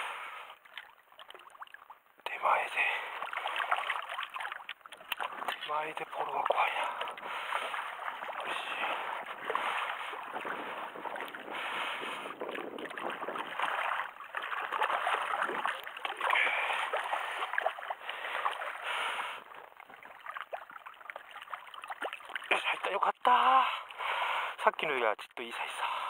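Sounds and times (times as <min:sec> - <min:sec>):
fish thrashing in water: 0:00.6 - 0:02.1, 0:02.8 - 0:22.6.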